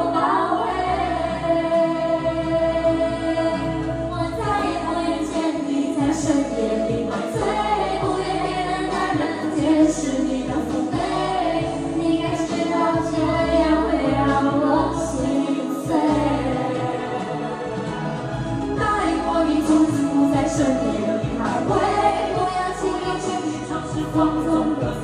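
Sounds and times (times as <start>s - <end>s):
woman singing: 0.0s - 17.3s, 18.8s - 25.0s
pop backing track: 0.0s - 25.0s.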